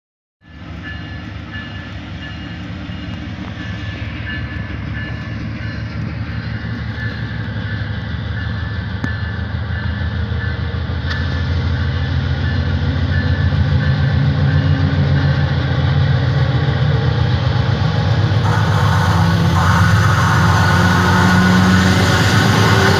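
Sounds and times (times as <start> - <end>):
diesel locomotive engine hum: 0.4 - 22.9.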